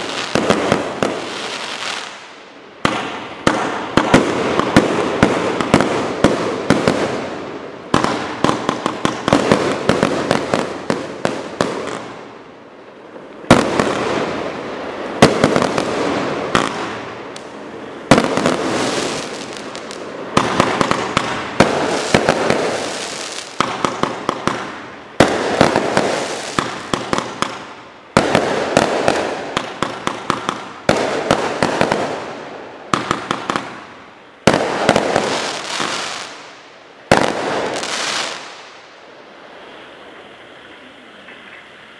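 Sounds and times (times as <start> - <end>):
fireworks shots and bursts: 0.0 - 12.4, 13.4 - 39.0.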